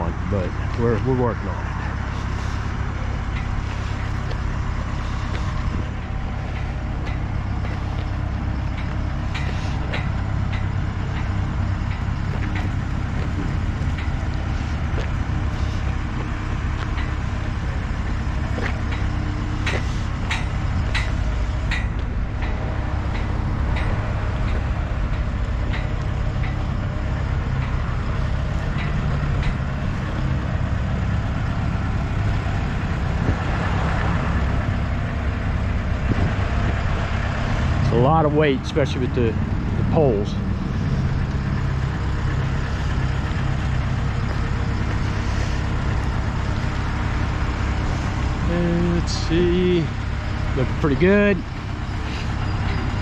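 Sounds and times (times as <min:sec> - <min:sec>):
truck engine running under load: 0:00.0 - 0:53.0.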